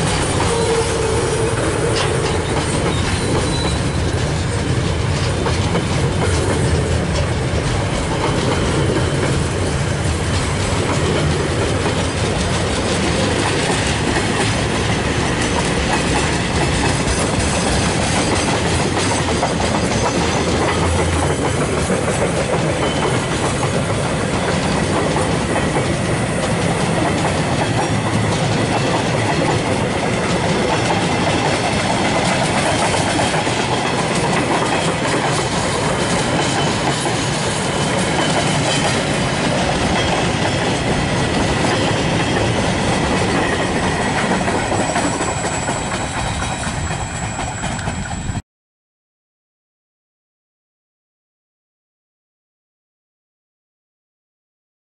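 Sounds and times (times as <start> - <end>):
train wheels rolling on rails: 0.0 - 48.4.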